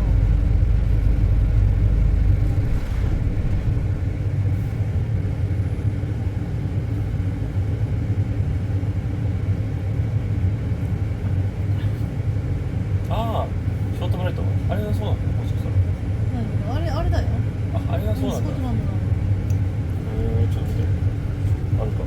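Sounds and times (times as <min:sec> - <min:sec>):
road vehicle rumble: 0:00.0 - 0:22.0.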